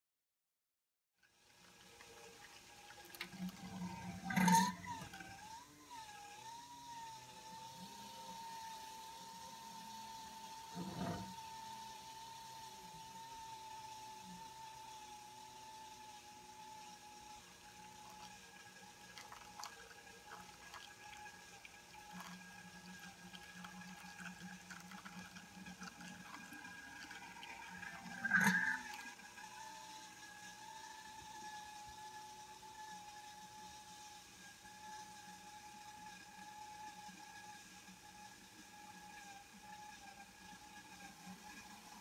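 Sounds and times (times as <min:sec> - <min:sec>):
mash swirling in tun: 0:01.4 - 0:42.0
electric gear motor whining: 0:03.1 - 0:42.0.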